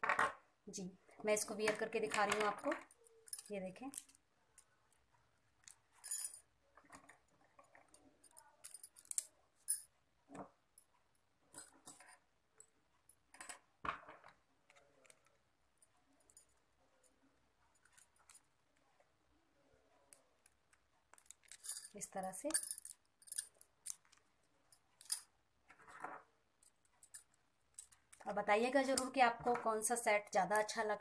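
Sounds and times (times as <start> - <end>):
bangles clinking: 1.3 - 13.7, 14.7 - 18.6, 20.1 - 30.8.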